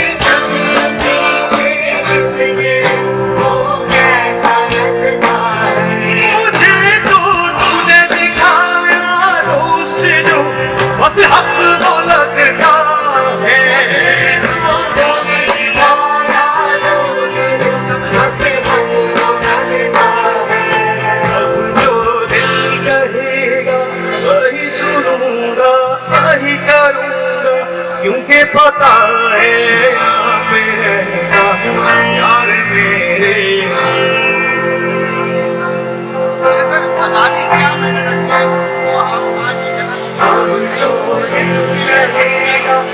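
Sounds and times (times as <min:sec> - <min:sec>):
live band playing instrumental: 0:00.0 - 0:42.9.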